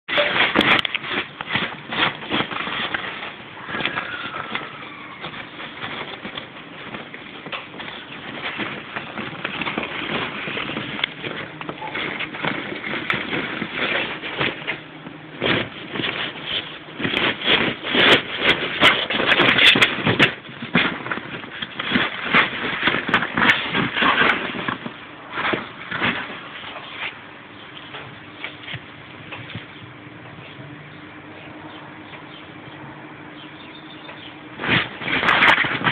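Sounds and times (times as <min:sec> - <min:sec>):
vinyl toy crackling and rubbing: 0:00.1 - 0:30.7, 0:34.1 - 0:35.9.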